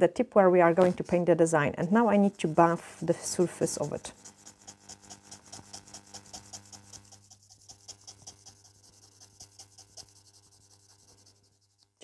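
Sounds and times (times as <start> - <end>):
nail buffer rasping: 0.7 - 11.7.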